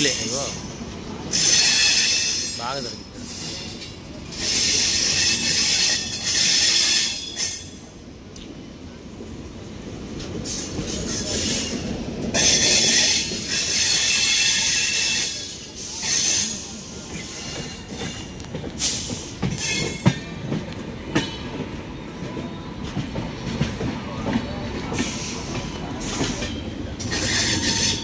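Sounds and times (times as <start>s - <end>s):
train wheel and rail rumble: 0.0s - 28.0s.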